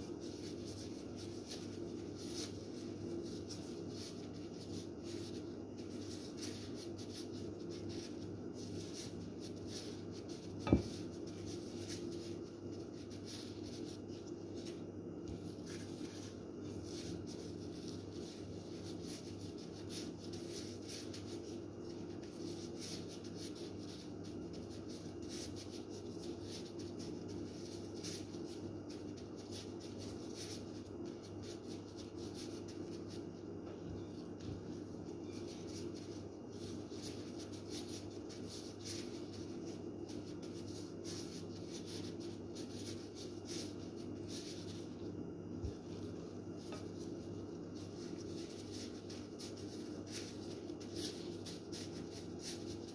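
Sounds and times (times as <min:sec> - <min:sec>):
gloved hand rustling breadcrumbs: 0:00.0 - 0:33.5, 0:34.1 - 0:52.9.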